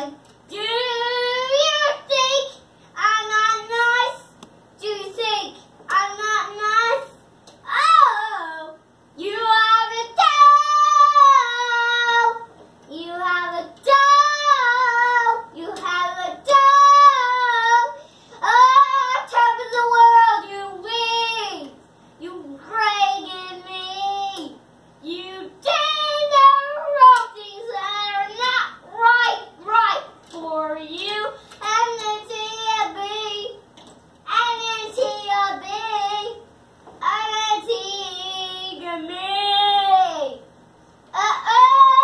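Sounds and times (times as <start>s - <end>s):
child singing in a high voice: 0.0s - 33.6s, 34.3s - 36.4s, 37.0s - 40.4s, 41.1s - 42.0s.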